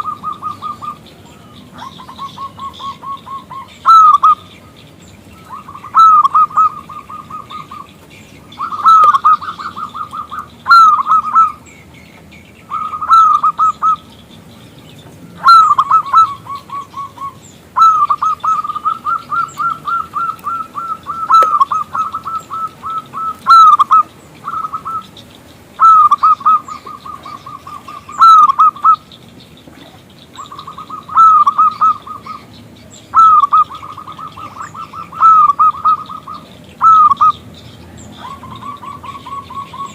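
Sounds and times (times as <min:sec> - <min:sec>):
dove cooing: 0:00.0 - 0:11.8, 0:12.6 - 0:14.1, 0:15.0 - 0:39.9
small birds chirping: 0:00.0 - 0:39.9.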